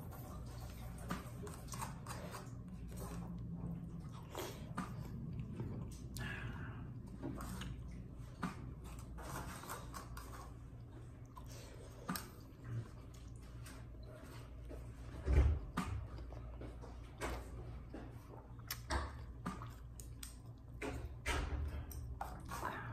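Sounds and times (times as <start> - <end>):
chewing: 0.0 - 21.2.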